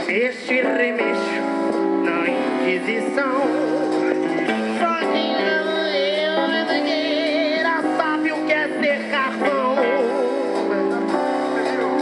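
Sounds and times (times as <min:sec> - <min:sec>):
person singing with vibrato: 0:00.0 - 0:11.2
live band playing: 0:00.0 - 0:12.0.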